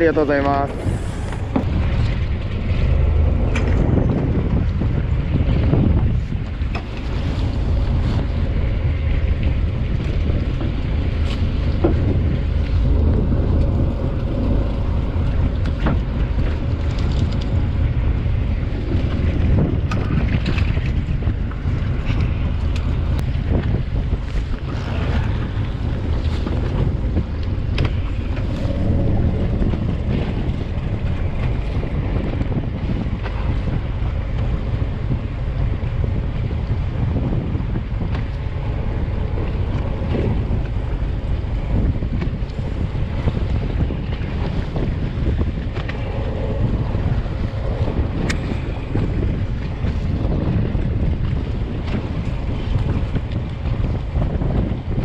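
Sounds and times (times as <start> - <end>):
boat engine rumble: 0.0 - 55.0
waves washing: 0.0 - 55.0
wind buffeting microphone: 0.0 - 55.0.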